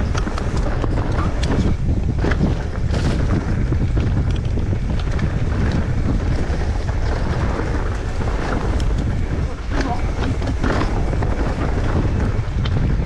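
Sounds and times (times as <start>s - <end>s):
bike rattling clicks: 0.0s - 13.0s
tyres on loose stones: 0.0s - 13.0s
wind buffeting microphone: 0.0s - 13.0s.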